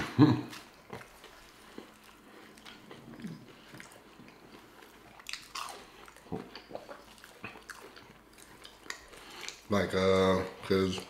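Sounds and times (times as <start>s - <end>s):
people biting and chewing food: 0.5s - 9.7s.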